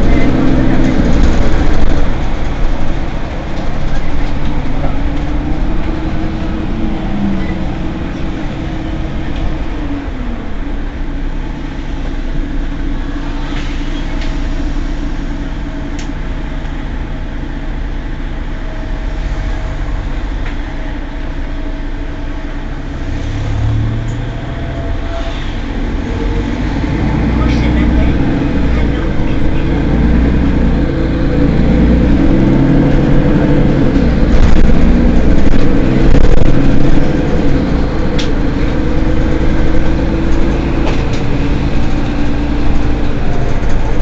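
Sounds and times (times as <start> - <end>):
bus engine idling: 0.0 - 44.0.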